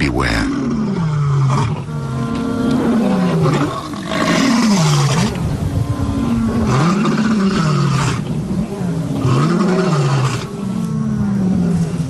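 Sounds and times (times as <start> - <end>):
lions roaring: 0.0 - 12.0.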